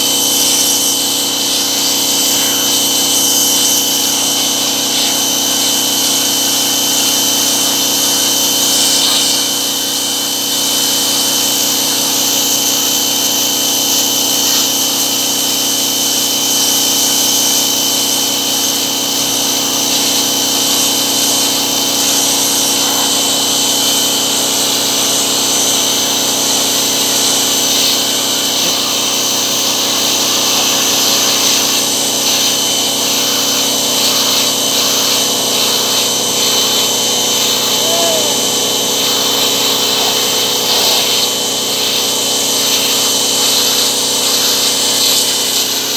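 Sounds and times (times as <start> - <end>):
high-pressure water jet hissing: 0.0 - 45.9
pressure washer motor humming: 0.0 - 45.9.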